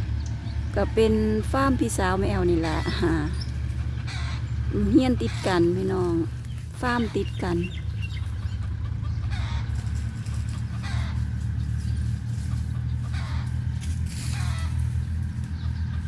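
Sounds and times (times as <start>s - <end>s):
tractor engine running: 0.0s - 16.0s
chicken clucking: 2.3s - 16.0s.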